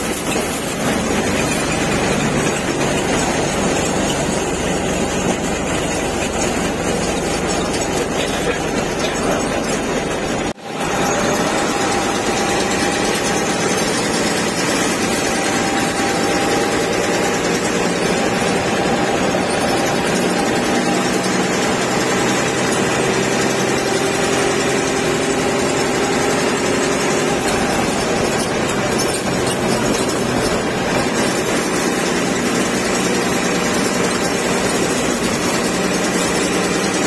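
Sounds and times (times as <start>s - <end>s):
bus engine and road noise: 0.0s - 37.0s.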